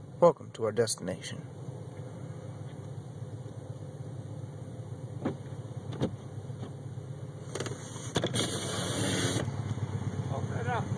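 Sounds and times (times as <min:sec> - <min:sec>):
vehicle engine humming: 0:00.0 - 0:10.9.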